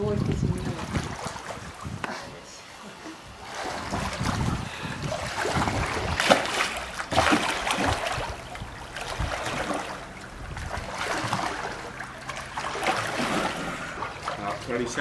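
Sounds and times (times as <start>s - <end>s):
water splashing in a pool: 0.0s - 15.0s.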